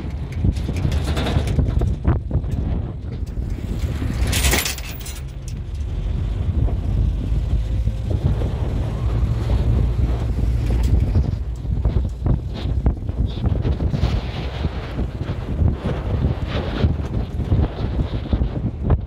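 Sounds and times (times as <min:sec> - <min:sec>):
vehicle engine and road rumble: 0:00.0 - 0:19.0
wind buffeting microphone: 0:00.0 - 0:19.0.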